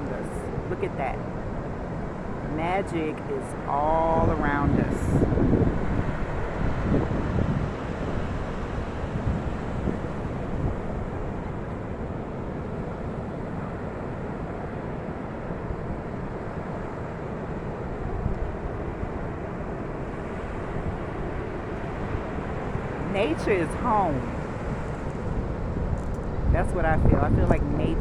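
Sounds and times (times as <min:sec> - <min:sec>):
ocean surf rushing: 0:00.0 - 0:28.0.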